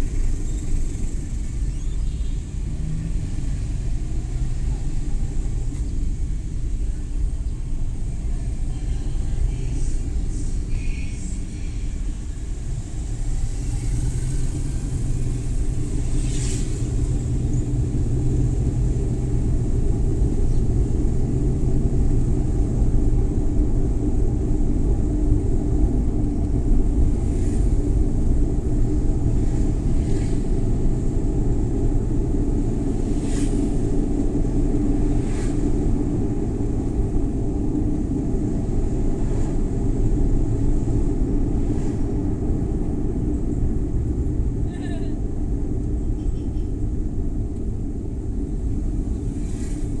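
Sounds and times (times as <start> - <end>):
road and tyre rumble: 0.0 - 50.0.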